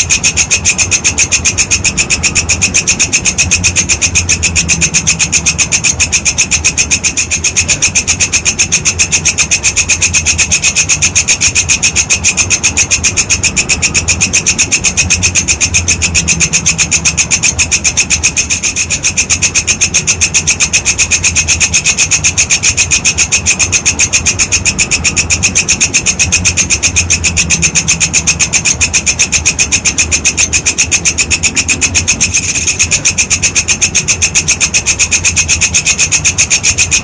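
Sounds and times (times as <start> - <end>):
insect rapid high chirping: 0.0 - 37.0.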